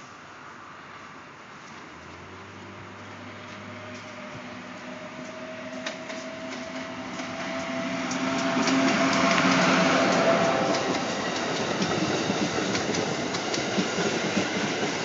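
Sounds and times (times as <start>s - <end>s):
electric train passing: 0.0s - 15.0s
wheels clicking over rail joints: 1.6s - 15.0s.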